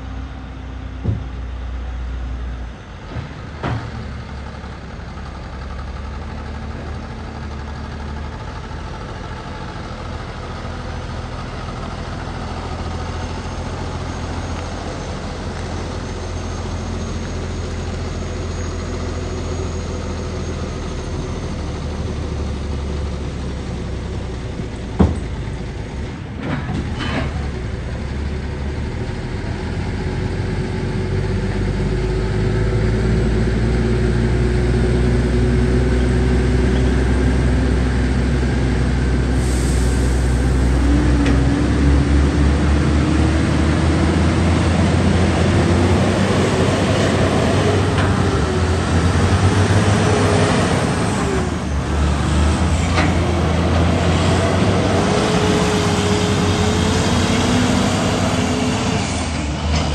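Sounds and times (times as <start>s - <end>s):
truck diesel engines droning: 0.0s - 59.9s.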